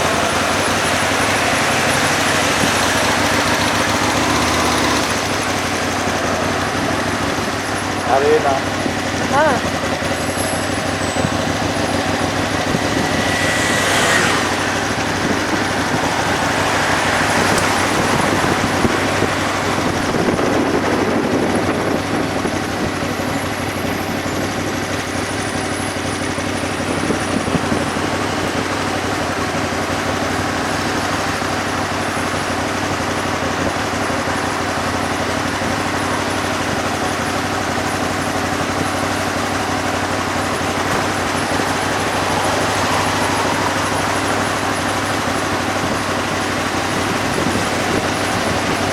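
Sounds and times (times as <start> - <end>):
motorbike engine running: 0.0 - 48.9
road and wind noise: 0.0 - 48.9.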